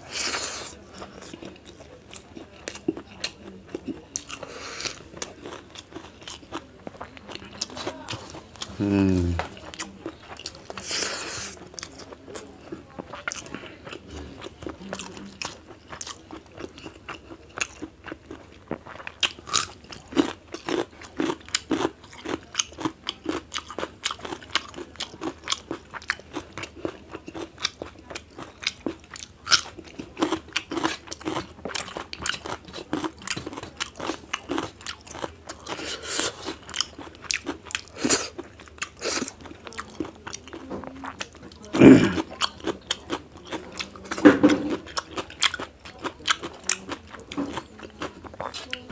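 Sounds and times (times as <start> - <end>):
person chewing and crunching food: 0.0 - 48.9.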